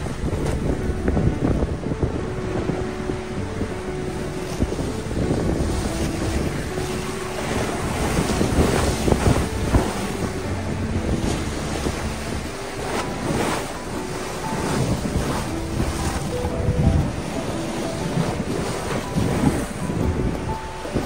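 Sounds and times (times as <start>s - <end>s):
waves splashing against seawall: 0.0s - 21.0s
wind buffeting microphone: 0.0s - 21.0s.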